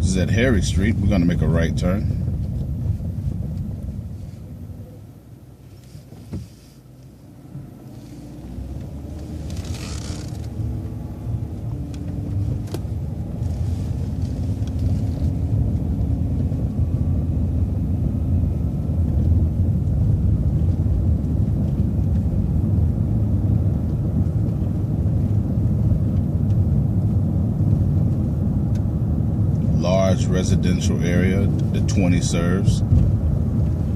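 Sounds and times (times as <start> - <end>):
bus engine rumble: 0.0 - 33.9.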